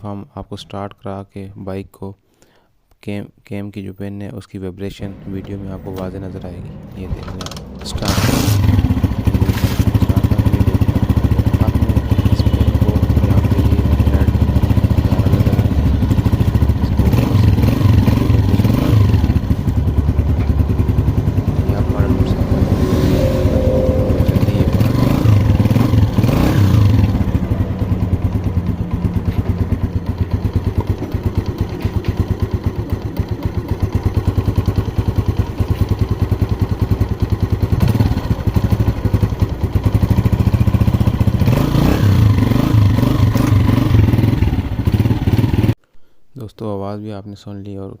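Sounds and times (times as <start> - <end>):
engine clatter: 5.0 - 45.8
motorcycle engine running: 5.1 - 45.8.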